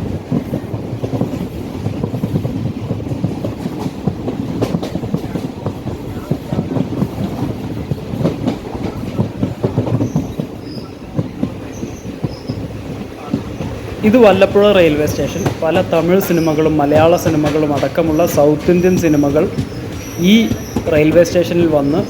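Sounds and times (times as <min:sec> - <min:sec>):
train coach rattling: 0:00.0 - 0:22.0
train wheels clattering on rails: 0:00.0 - 0:22.0.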